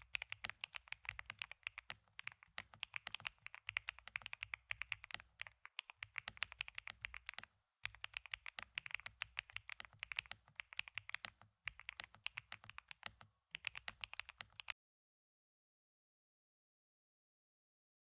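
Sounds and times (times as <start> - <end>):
mechanical keyboard typing: 0.0 - 14.8.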